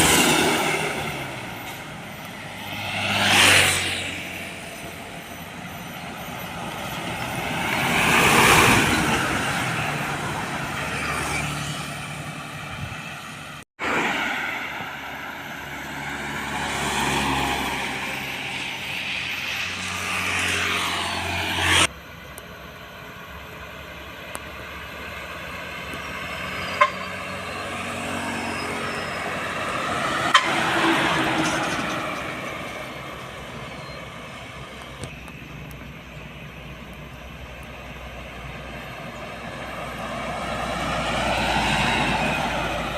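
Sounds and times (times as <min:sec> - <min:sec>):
trucks driving past: 0:00.0 - 0:42.9.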